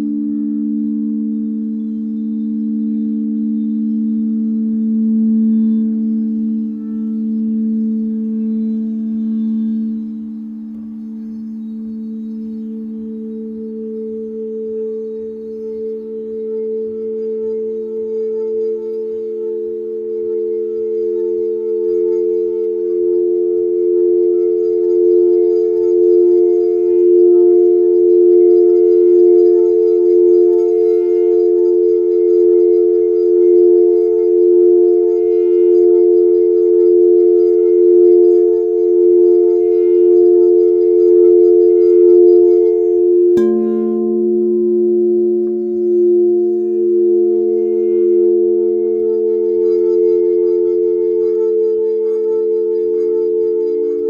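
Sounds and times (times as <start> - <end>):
singing bowls ringing: 0.0 - 54.0.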